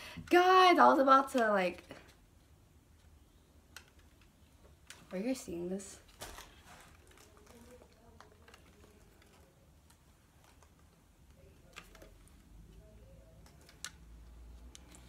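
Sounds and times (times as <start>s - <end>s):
faint plastic clicks and taps: 1.3s - 5.2s, 6.1s - 15.0s.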